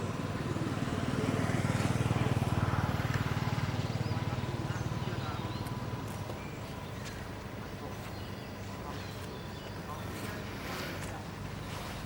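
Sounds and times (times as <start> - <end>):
small engine passing by: 0.0 - 12.0.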